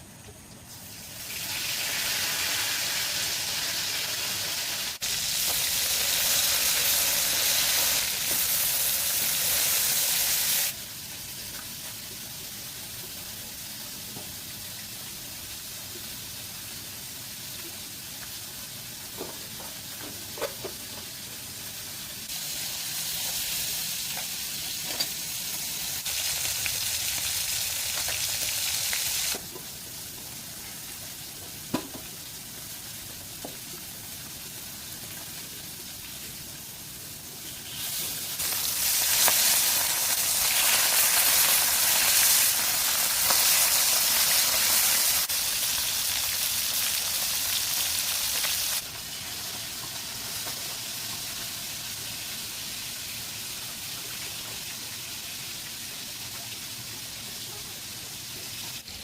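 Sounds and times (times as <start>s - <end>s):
food sizzling in frying: 0.7s - 59.0s.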